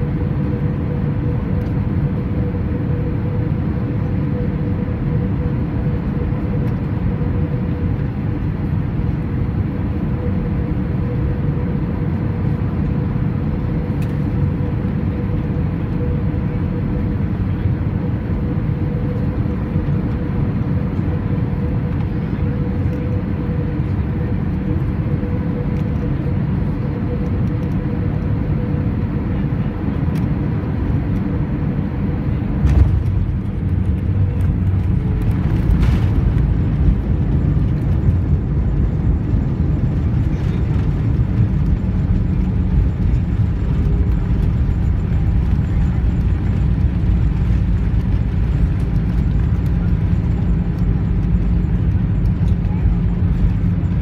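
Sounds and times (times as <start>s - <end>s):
airliner rolling on runway: 0.0s - 54.0s
airplane engines droning: 0.0s - 54.0s.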